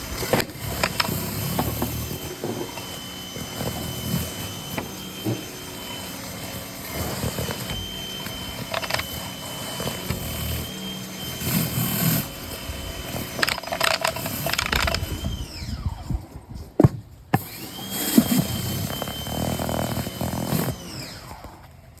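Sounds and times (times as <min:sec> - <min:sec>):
pressure washer whine: 0:00.0 - 0:16.1, 0:17.4 - 0:21.8.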